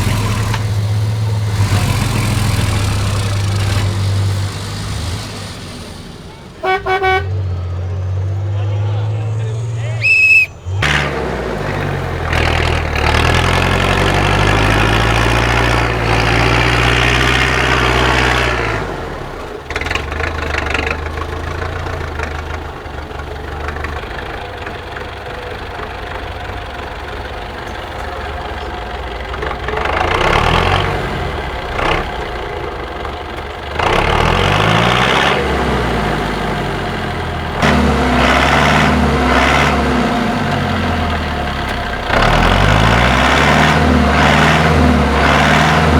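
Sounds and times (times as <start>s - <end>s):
truck diesel engine revving: 0.0s - 45.9s.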